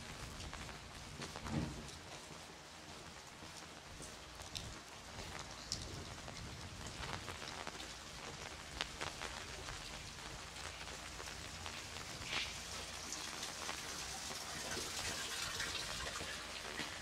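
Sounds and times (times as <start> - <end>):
rain on pavement: 0.0 - 17.0.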